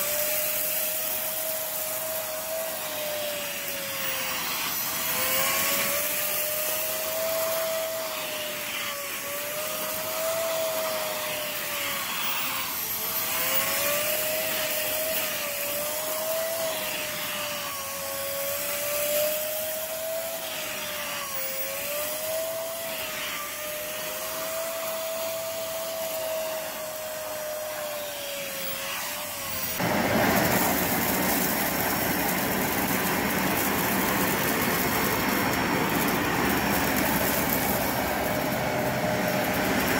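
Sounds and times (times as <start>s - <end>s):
stick vacuum motor whine: 0.0s - 39.9s
upright vacuum rushing: 0.0s - 39.9s.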